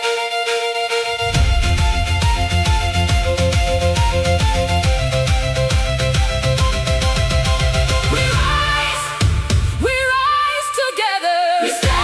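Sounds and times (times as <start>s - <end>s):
celtic-style ambient music: 0.0s - 9.8s.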